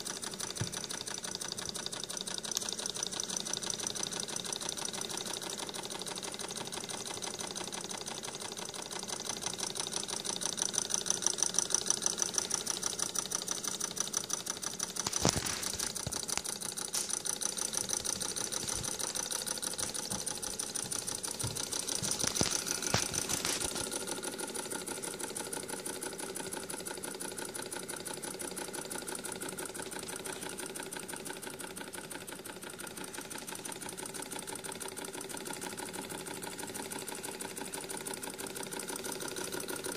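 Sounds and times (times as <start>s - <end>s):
engine mechanical clatter: 0.0s - 39.9s.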